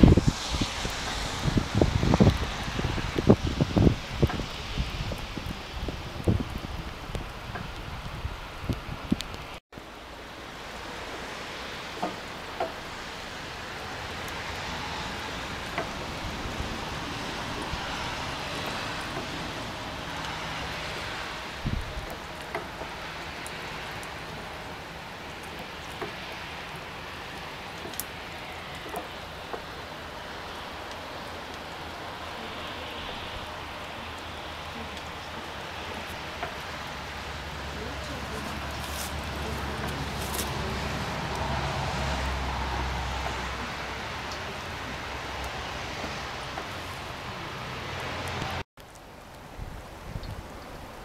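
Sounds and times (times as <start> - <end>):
steady hiss: 0.0 - 43.7.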